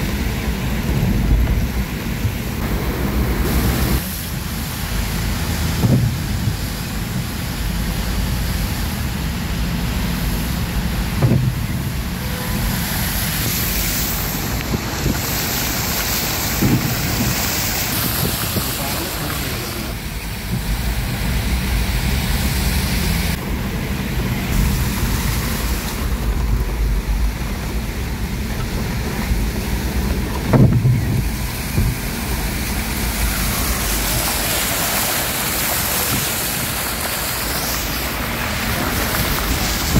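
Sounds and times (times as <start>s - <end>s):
wind rumbling on microphone: 0.0s - 8.3s, 9.8s - 39.9s
steady rain: 0.0s - 39.9s.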